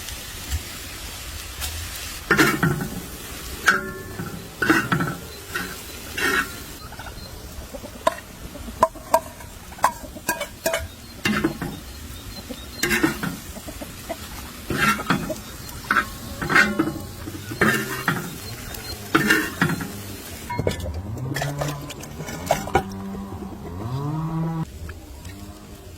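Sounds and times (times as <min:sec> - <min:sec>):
food sizzling: 0:00.0 - 0:25.9
utensil scraping cooking pot: 0:02.3 - 0:07.3, 0:08.0 - 0:24.7.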